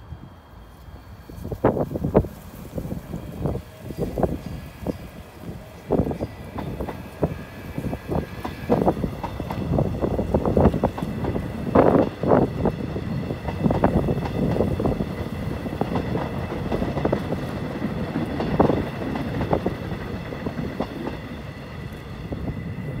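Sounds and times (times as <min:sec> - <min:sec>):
train rumbling past: 0:00.0 - 0:23.0
wheels clacking over rail joints: 0:03.2 - 0:22.3.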